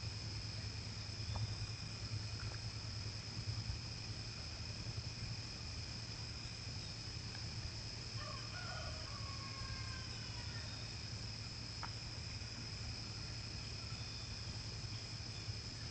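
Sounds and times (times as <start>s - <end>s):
crickets chirping: 0.0s - 15.9s
low steady hum: 0.0s - 15.9s.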